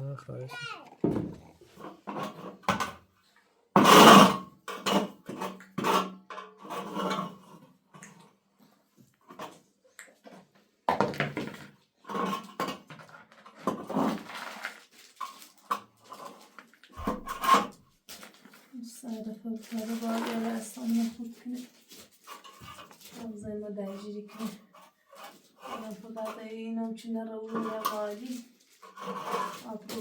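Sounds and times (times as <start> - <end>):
objects clattering and knocking: 0.8 - 3.1, 3.8 - 7.7, 9.2 - 30.0.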